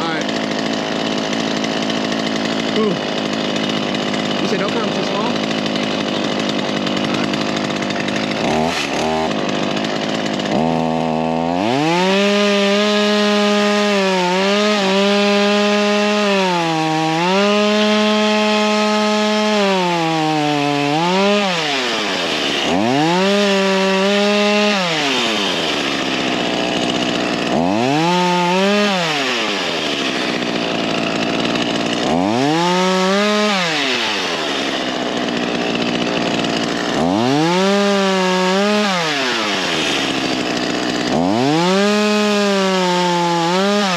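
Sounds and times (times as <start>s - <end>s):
chainsaw revving and cutting wood: 0.0s - 43.9s.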